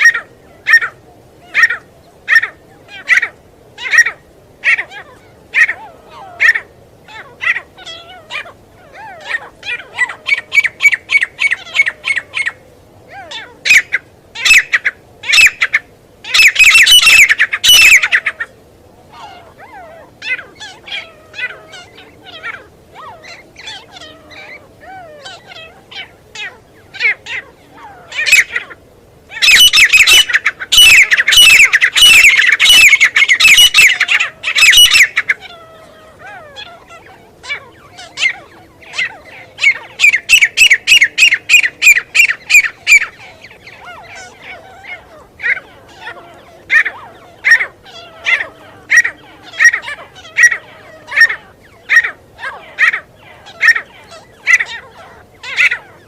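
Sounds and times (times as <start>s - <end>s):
francolin calling: 0.0s - 56.0s.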